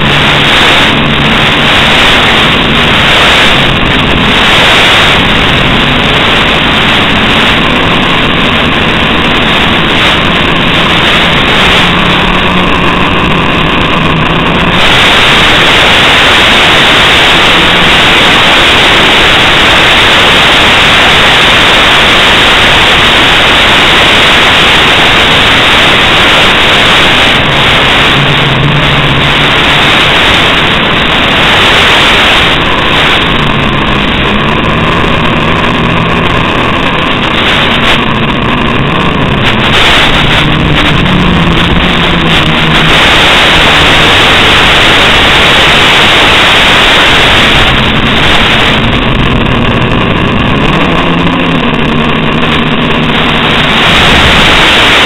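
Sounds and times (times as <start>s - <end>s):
low buzzing tone: 0.0s - 55.0s
static hiss: 0.0s - 55.0s.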